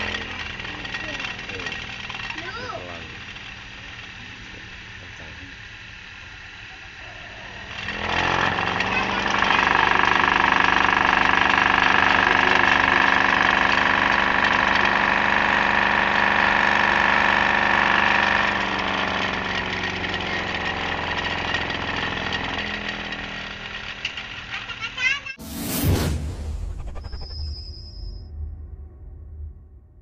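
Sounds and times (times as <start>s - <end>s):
bench grinder motor whining: 0.0s - 25.0s.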